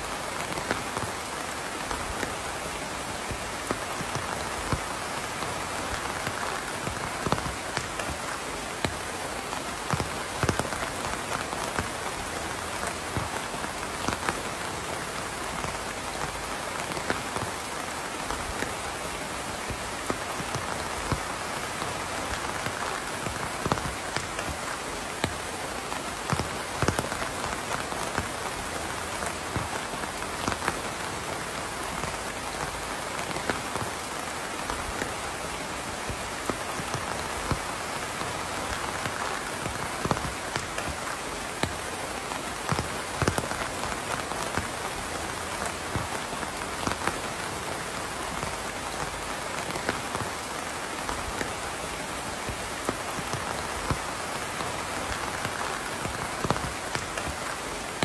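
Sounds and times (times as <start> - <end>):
rain falling: 0.0 - 58.0
raindrops pattering on a surface: 0.0 - 58.0.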